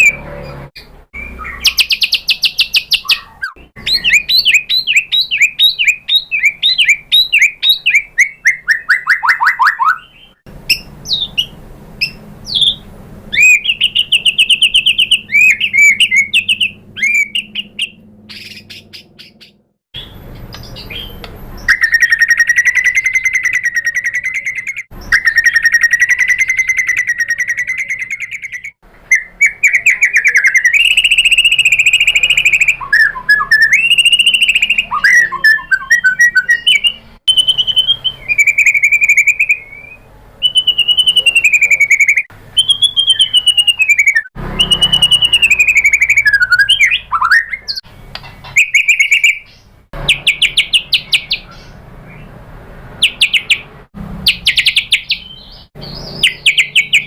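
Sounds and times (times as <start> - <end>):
bird singing whistled song: 0.0 - 0.2, 0.8 - 52.3, 53.0 - 53.6, 54.2 - 57.0.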